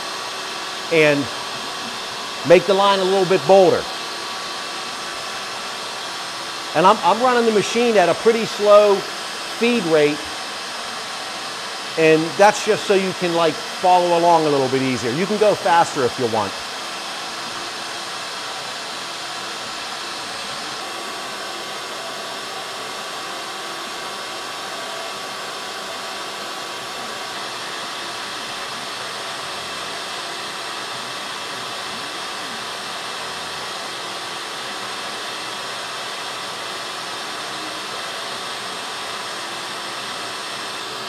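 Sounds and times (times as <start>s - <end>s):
router motors driving: 0.0s - 41.0s
vacuum blower hissing: 0.0s - 41.0s.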